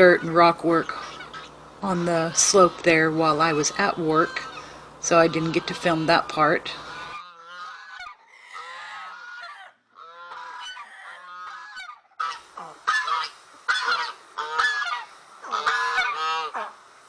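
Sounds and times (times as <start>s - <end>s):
geese honking: 0.0s - 16.8s.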